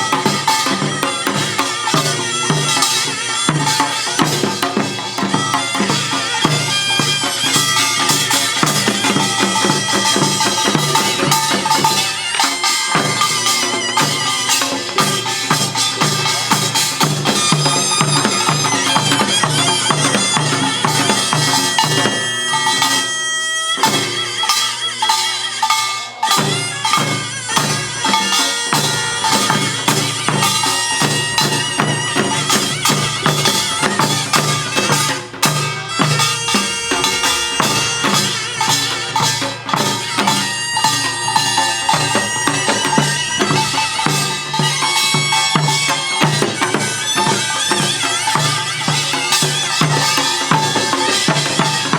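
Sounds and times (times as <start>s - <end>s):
gongs and drums: 0.0s - 51.9s
reedy shawm melody: 0.0s - 51.9s.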